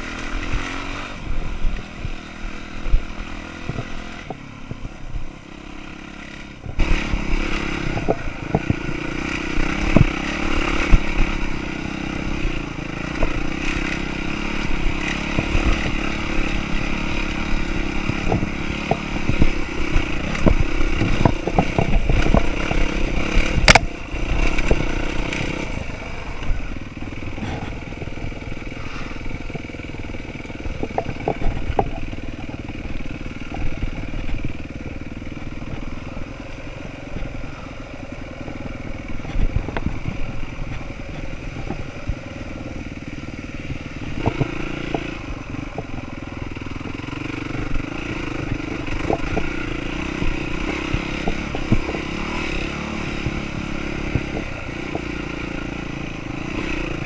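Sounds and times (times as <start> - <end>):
dirt bike engine running: 0.0 - 57.0
knocks and rattles from bike: 0.0 - 57.0.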